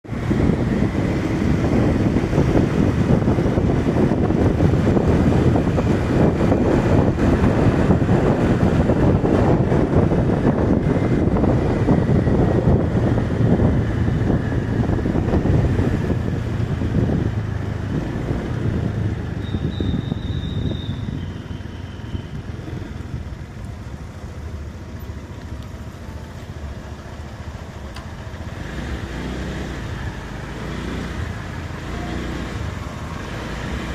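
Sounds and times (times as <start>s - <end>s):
vehicle engine and road noise: 0.0s - 33.9s.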